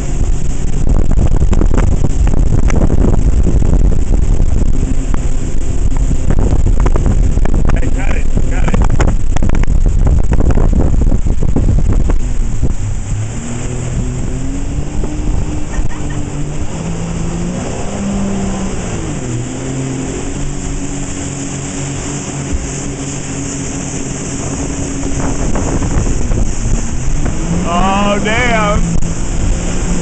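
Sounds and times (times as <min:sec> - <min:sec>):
boat engine running at speed: 0:00.0 - 0:30.0
churning wake water: 0:00.0 - 0:30.0
wind rushing: 0:00.0 - 0:30.0.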